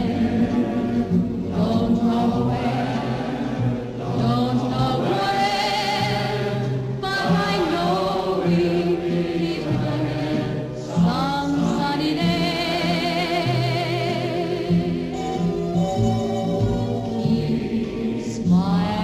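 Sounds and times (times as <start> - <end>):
choir singing sustained notes: 0.0 - 19.0.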